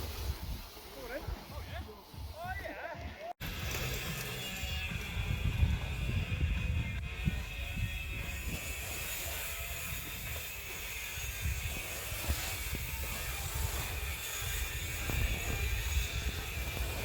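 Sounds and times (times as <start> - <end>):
bike rolling on dirt rumble: 0.0 - 17.0.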